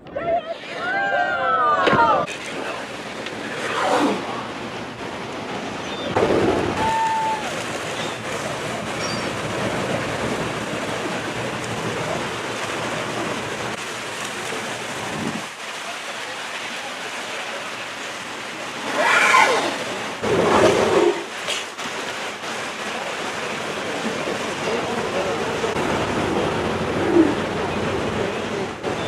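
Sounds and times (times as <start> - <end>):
sea noise: 0.0 - 29.0
wind: 0.0 - 29.0.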